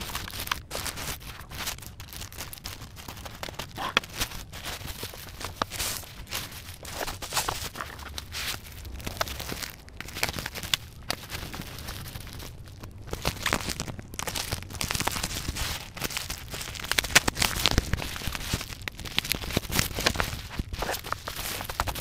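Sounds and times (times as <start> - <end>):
plastic wrap crinkling: 0.0 - 22.0.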